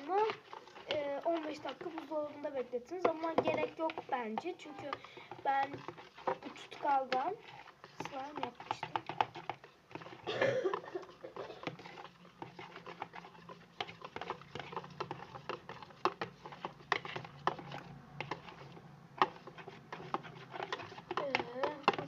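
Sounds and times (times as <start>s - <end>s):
spoon tapping and scraping bowl: 0.0s - 22.0s.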